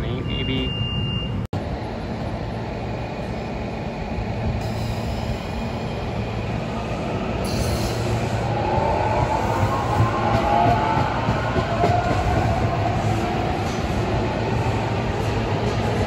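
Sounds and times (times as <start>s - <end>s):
train wheels rumbling on rails: 1.6s - 16.0s.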